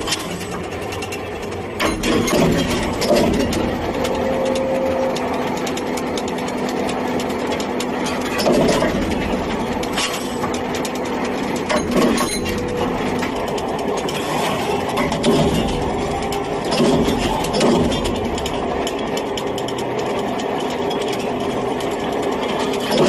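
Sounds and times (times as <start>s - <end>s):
hydraulic drive hum: 0.0s - 23.0s.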